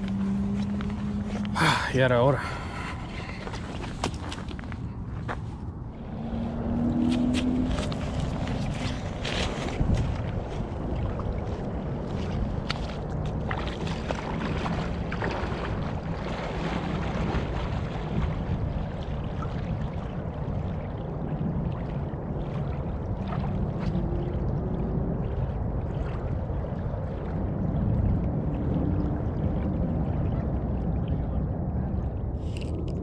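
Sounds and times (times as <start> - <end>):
small waves lapping: 0.0 - 30.2
wind rumble on microphone: 0.0 - 33.0.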